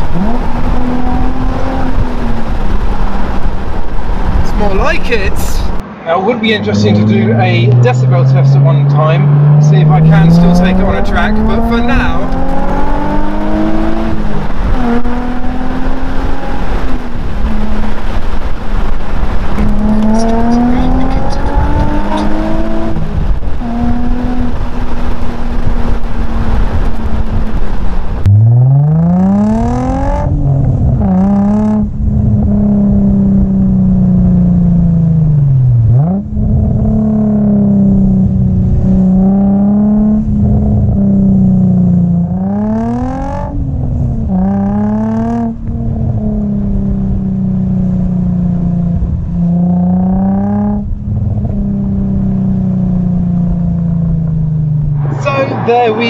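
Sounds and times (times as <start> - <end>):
car engine revving through gears: 0.0 - 5.0, 5.7 - 56.0.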